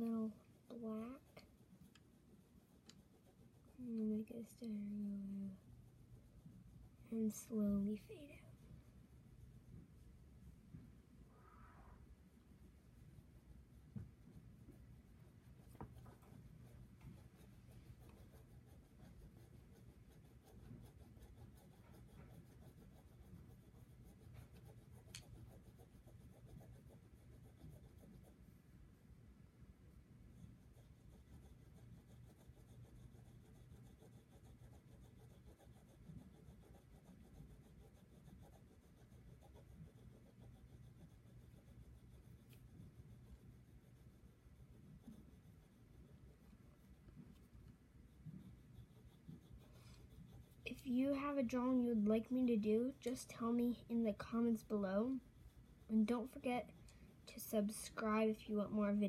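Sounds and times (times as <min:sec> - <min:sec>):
pencil scratching on paper: 0:00.0 - 0:10.0, 0:12.6 - 0:28.8, 0:30.2 - 0:59.0.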